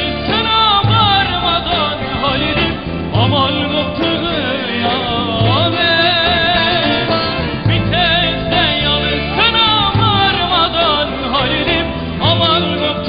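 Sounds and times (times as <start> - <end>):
folk band playing: 0.0 - 13.0
man singing into microphone: 0.0 - 13.0.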